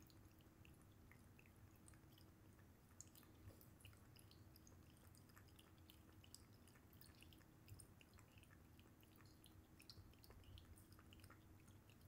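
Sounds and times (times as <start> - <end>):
cat lapping water: 0.0 - 12.0.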